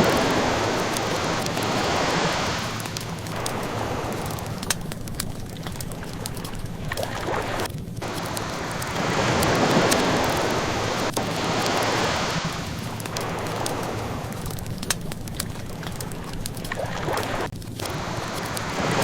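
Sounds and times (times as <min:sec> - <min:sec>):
ocean waves washing in: 0:00.0 - 0:19.0
wood fire crackling: 0:00.0 - 0:19.0.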